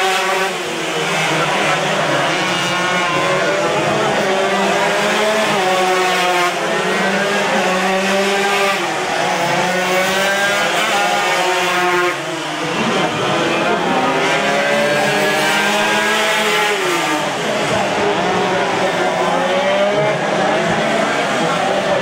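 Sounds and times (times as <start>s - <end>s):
motorcycles revving through gears: 0.0s - 22.0s.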